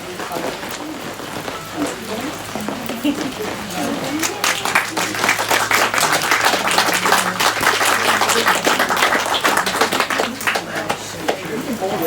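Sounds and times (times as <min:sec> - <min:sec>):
crowd clapping: 0:00.0 - 0:12.0.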